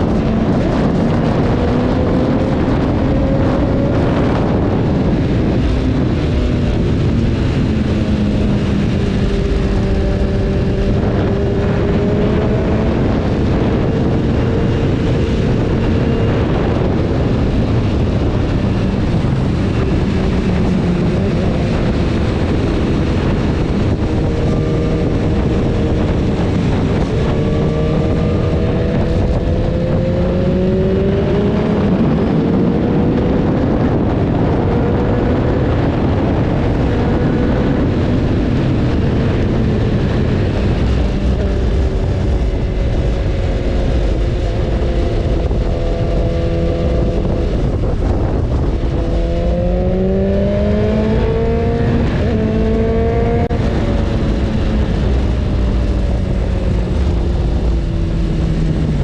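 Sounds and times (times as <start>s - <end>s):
heavy wind: 0.0s - 59.0s
motorcycle engine running: 0.0s - 59.0s
road rush: 0.0s - 59.0s.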